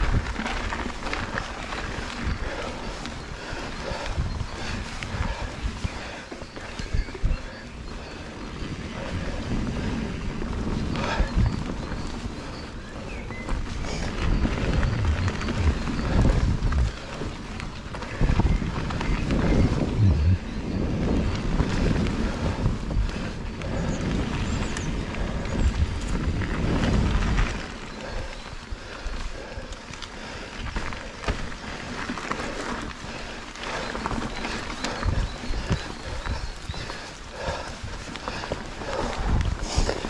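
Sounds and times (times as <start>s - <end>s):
bike rattling and knocking: 0.0s - 40.0s
tyres rolling over dirt: 0.0s - 40.0s
wind buffeting microphone: 0.0s - 40.0s.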